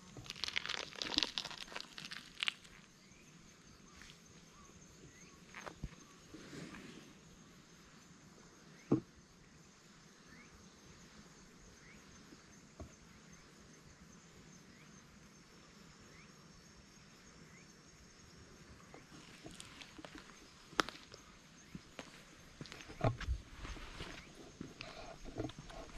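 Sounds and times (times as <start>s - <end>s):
high insect trill: 0.0s - 25.9s.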